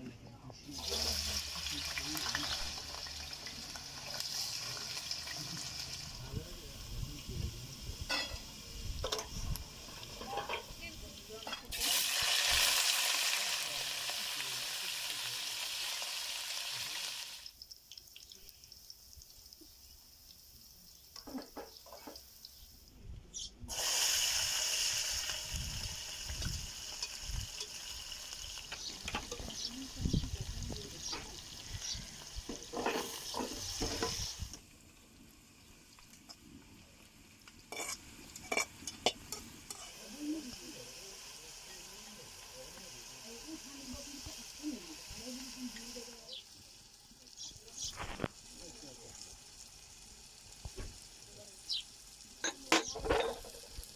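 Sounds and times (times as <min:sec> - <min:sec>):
food sizzling in hot oil: 0:00.6 - 0:53.9.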